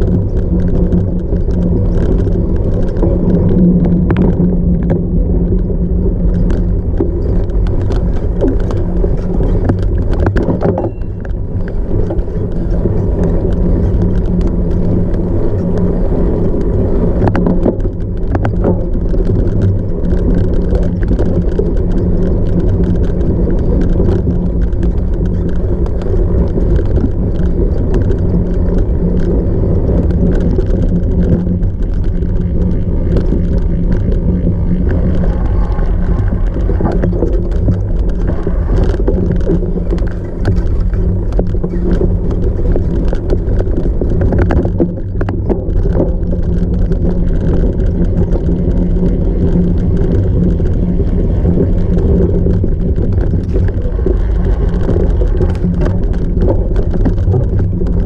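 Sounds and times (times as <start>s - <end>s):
bike knocks and rattles: 0.0s - 58.0s
tyres on rough ground: 0.0s - 58.0s
wind rush on microphone: 0.0s - 58.0s.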